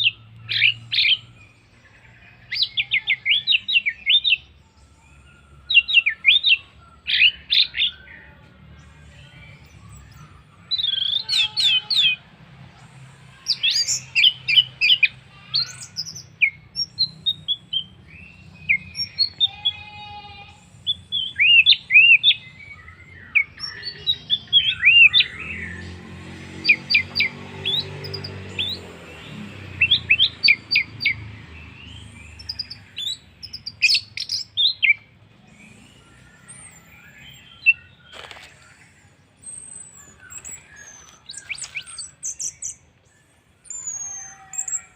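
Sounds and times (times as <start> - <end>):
thrush singing: 0.0 - 44.9.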